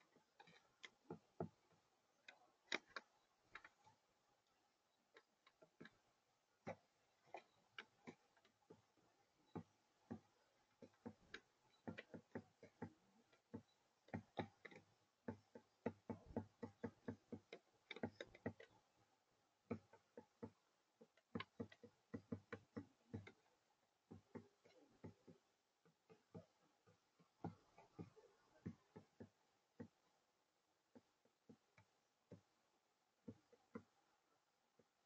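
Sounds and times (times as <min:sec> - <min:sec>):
bird beak pecking on tabletop: 0:00.0 - 0:30.2, 0:30.9 - 0:35.0.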